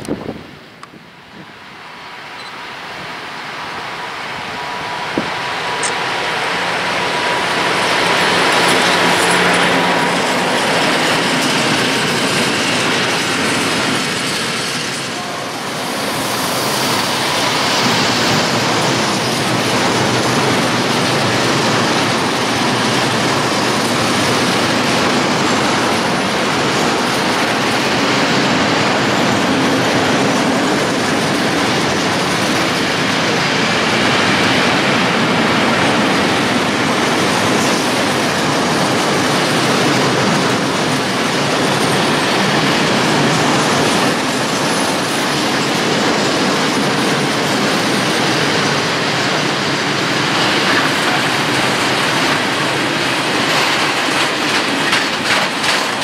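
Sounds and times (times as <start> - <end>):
freight train passing: 0.0 - 56.0
steel wheels rumbling on rails: 0.0 - 56.0.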